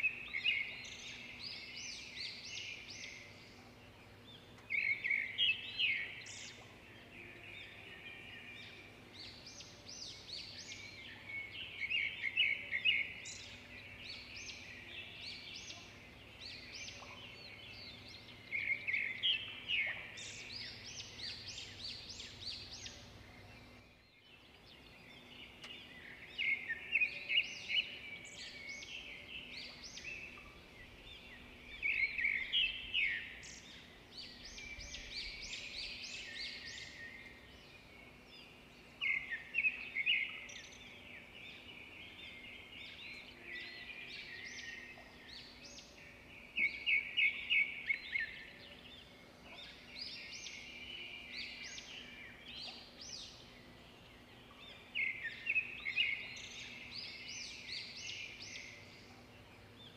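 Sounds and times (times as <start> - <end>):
faint steady hum: 0.0 - 59.9
songbird chirping and trilling: 0.0 - 59.9.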